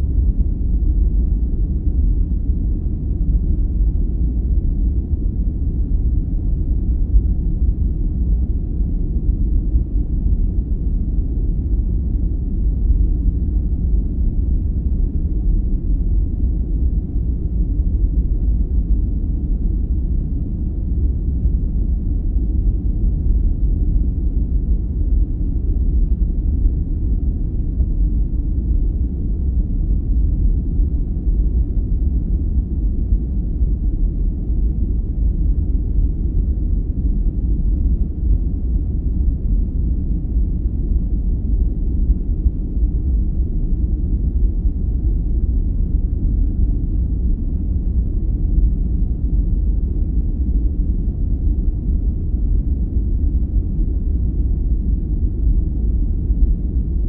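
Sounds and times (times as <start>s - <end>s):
deep steady white noise: 0.0s - 57.0s.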